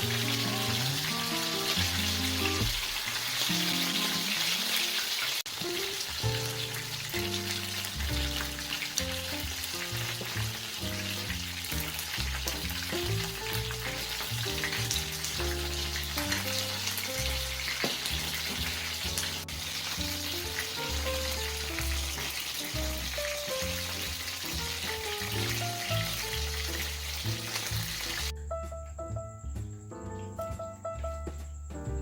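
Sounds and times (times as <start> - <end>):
chicken sizzling in hot oil: 0.0 - 28.3
background music: 0.0 - 32.0.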